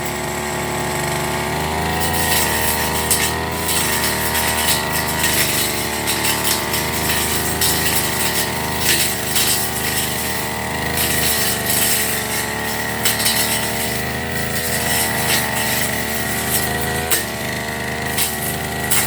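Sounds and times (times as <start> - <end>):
brush cutter engine running: 0.0 - 19.0
blade swishing through grass: 1.9 - 19.0.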